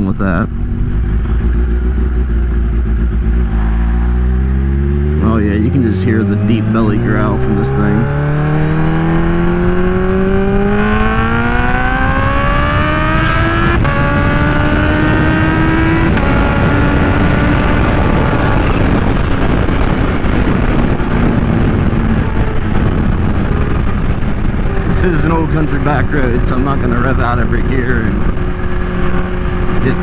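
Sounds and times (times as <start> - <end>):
motorcycle engine accelerating: 0.0 - 30.0
wind noise: 0.0 - 30.0.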